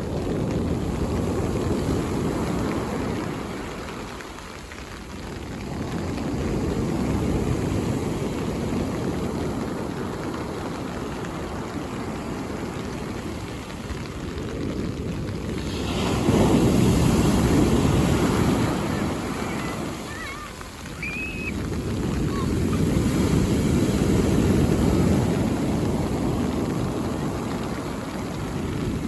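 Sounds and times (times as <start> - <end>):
waves breaking on beach: 0.0 - 29.0.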